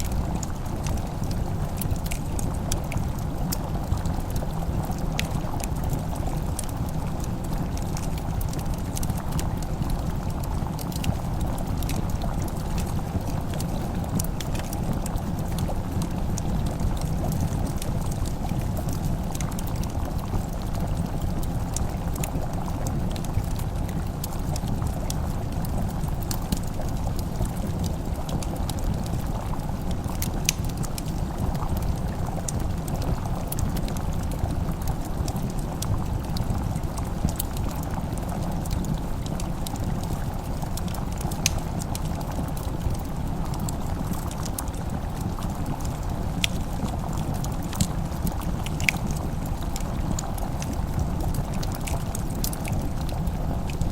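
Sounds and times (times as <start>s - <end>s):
food bubbling: 0.0s - 53.9s
wood fire crackling: 0.0s - 53.9s.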